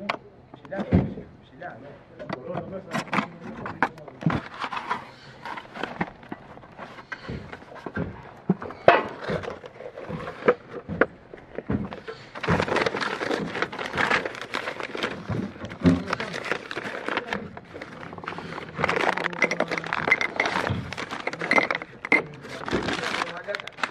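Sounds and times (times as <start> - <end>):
stiff paper wrapping rustling: 2.9 - 23.9.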